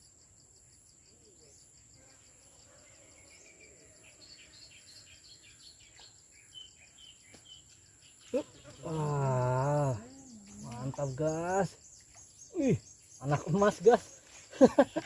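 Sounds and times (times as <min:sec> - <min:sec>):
insect chorus buzzing and chirping: 0:00.0 - 0:15.0
faint bird chirps: 0:00.6 - 0:15.0.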